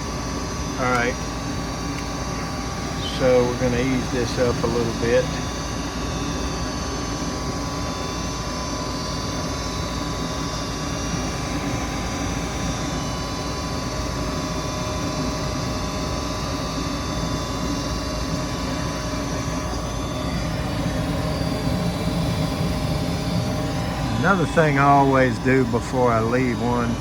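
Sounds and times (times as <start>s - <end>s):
faint whining tones: 0.0s - 27.0s
furnace burners and fans roaring: 0.0s - 27.0s.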